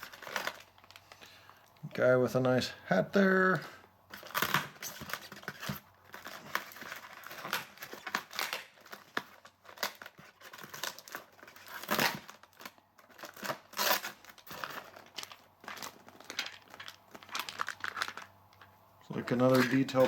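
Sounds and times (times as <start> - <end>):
packaging crinkling: 0.0 - 1.9, 3.6 - 20.0.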